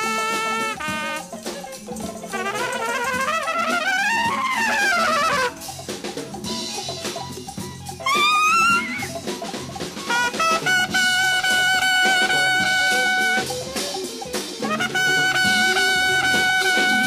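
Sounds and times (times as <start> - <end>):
busy drumming: 0.0 - 17.0
jazz ensemble with horns: 0.0 - 17.0.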